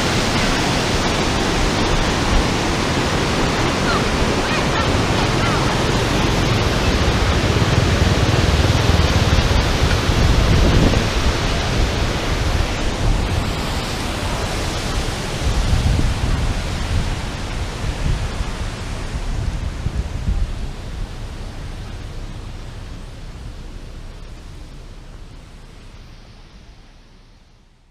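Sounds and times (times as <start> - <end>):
waterfall roaring: 0.0 - 27.2
deep rumble: 0.9 - 27.4.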